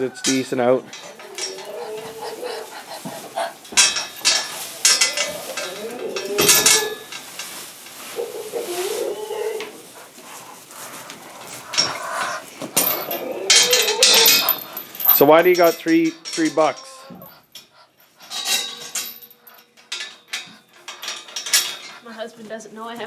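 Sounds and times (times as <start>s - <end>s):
metal clanking and rattling: 0.0s - 8.6s, 11.3s - 23.0s.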